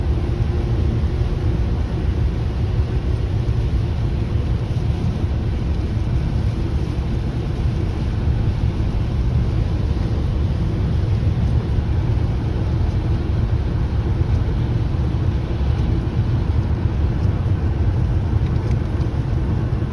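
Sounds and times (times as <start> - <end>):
road and wind noise: 0.0 - 19.9
vehicle rumbling on the move: 0.0 - 19.9.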